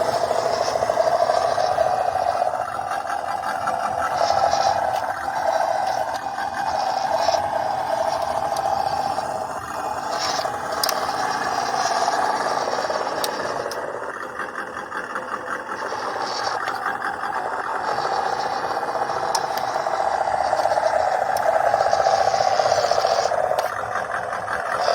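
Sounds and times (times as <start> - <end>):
chassis scraping and rattling: 0.0 - 24.9
electric motor whine: 0.0 - 24.9.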